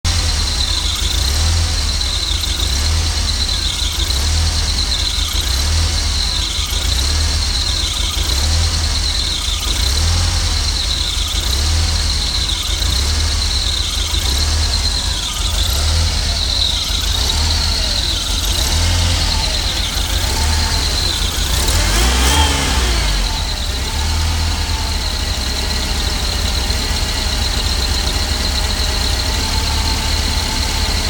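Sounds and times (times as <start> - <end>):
car engine idling unevenly: 0.0 - 31.0.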